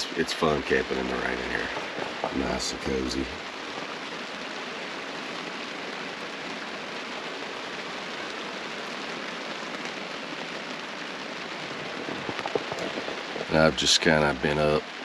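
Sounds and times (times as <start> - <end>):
rain falling on truck: 0.0 - 15.0.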